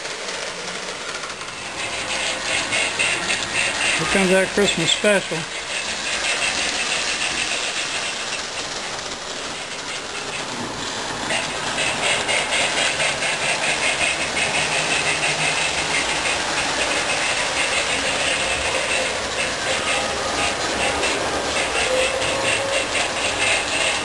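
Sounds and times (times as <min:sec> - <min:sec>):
toy train motor whir: 0:00.0 - 0:24.0
wheels clattering on rails: 0:00.0 - 0:24.0.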